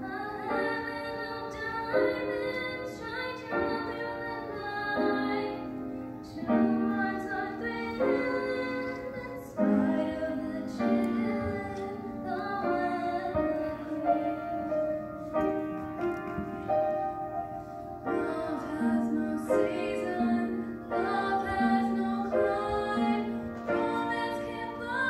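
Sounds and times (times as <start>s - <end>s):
piano accompaniment: 0.0s - 25.0s
choir singing: 0.2s - 15.1s, 18.0s - 25.0s.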